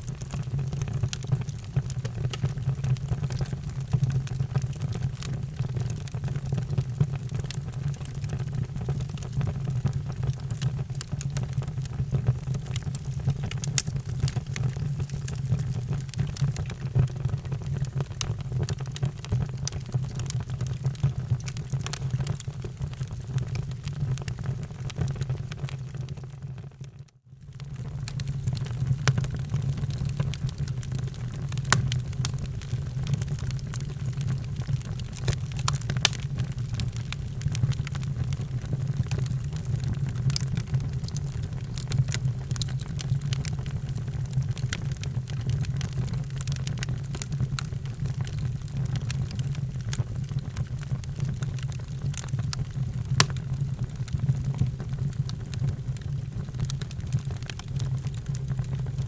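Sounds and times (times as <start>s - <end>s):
fire rumbling: 0.0s - 24.8s, 27.6s - 59.0s
fire crackles and pops: 0.0s - 59.0s.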